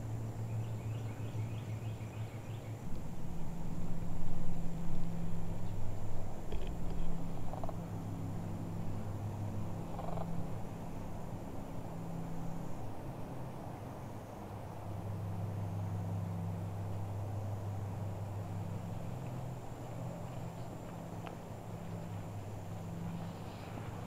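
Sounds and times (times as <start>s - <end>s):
distant motor humming: 0.0s - 24.0s.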